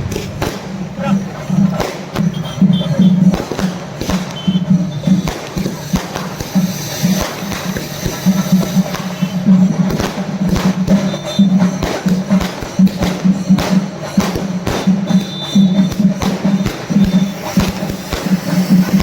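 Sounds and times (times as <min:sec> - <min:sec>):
loud percussive music: 0:00.0 - 0:19.0.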